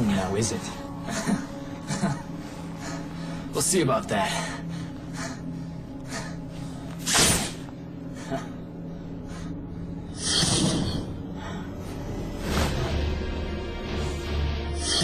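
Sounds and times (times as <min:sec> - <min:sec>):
background music score: 0:00.0 - 0:15.0.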